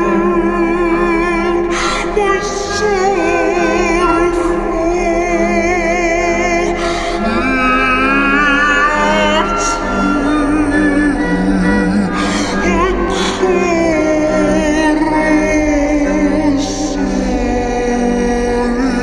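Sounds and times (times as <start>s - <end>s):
song with sung vocal: 0.0s - 19.0s.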